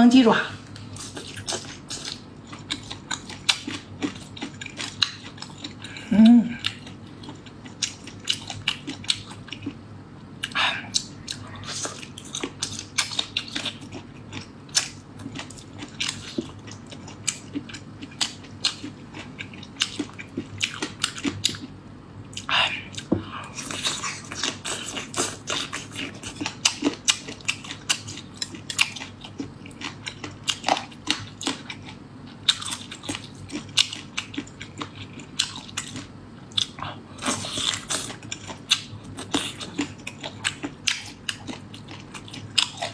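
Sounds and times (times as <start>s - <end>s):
close-miked chewing and crunching: 0.1s - 42.9s.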